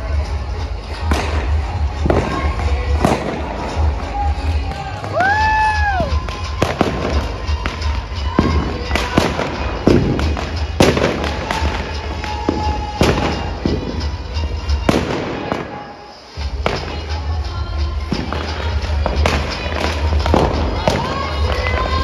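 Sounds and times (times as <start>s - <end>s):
firecrackers bursting: 0.0s - 22.0s
music playing: 0.0s - 22.0s.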